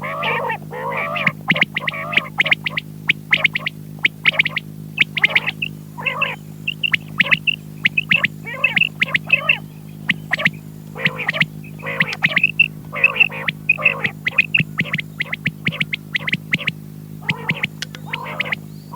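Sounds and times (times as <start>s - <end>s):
electrical hum: 0.0s - 18.9s
quail calling: 0.0s - 18.9s.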